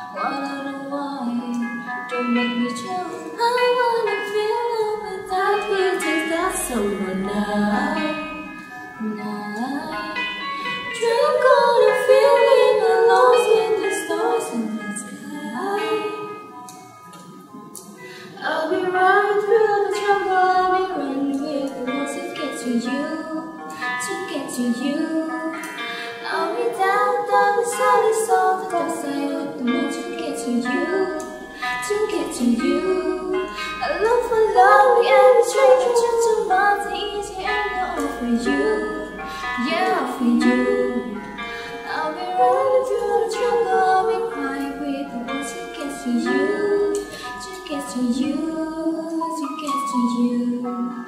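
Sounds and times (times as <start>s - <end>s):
woman singing a cappella: 0.0s - 8.4s, 9.0s - 10.2s, 11.0s - 16.3s, 18.4s - 51.0s
soft sustained chords: 0.0s - 49.3s.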